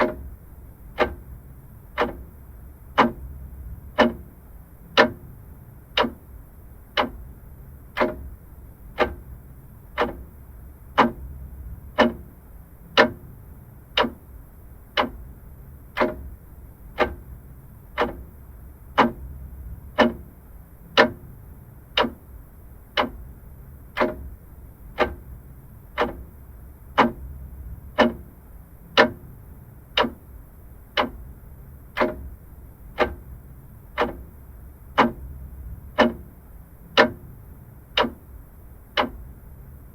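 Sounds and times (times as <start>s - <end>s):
mechanical clock ticking: 0.0s - 39.9s.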